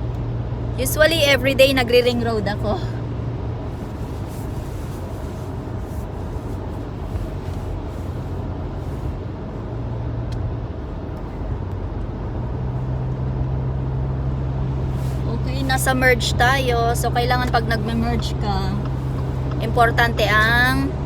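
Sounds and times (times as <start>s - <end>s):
engine and drivetrain hum: 0.0s - 21.0s
tyre and road noise: 0.0s - 21.0s.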